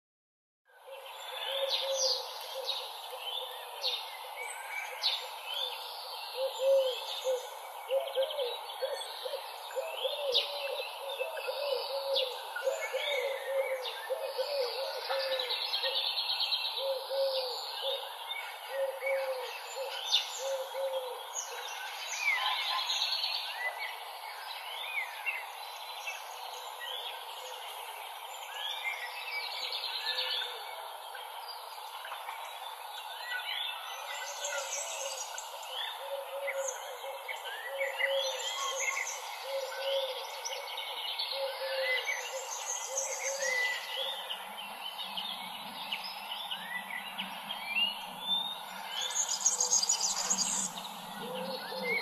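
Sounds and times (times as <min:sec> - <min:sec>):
songbirds singing and chirping: 0:00.7 - 0:52.0.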